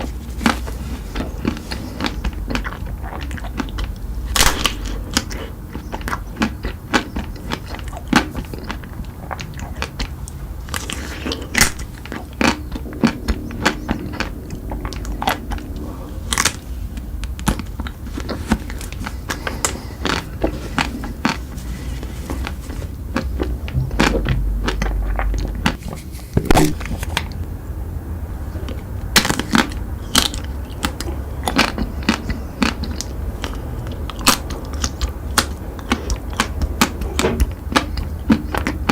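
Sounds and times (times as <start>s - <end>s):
chocolate crunching being chewed: 0.0s - 15.6s, 17.2s - 25.4s, 28.7s - 38.9s
low steady hum: 0.0s - 38.8s.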